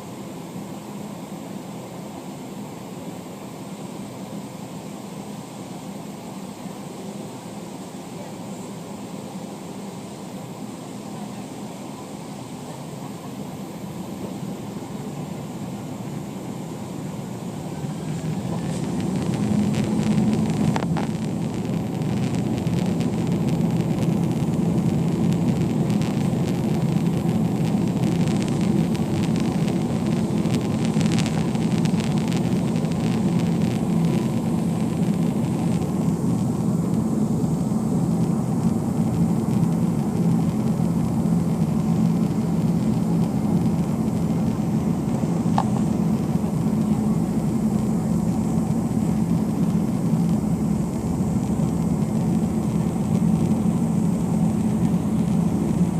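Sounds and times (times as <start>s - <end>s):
jet cabin engine drone: 0.0s - 55.9s.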